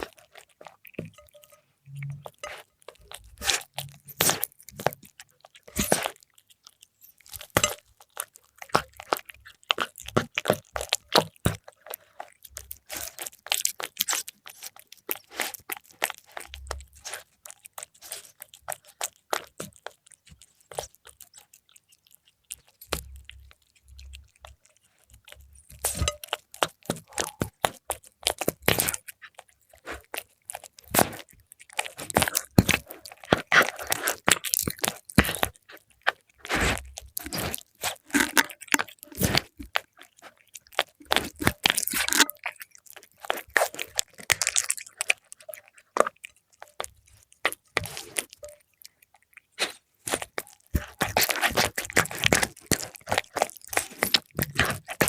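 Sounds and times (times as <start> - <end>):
cat crunching food: 0.0 - 55.0.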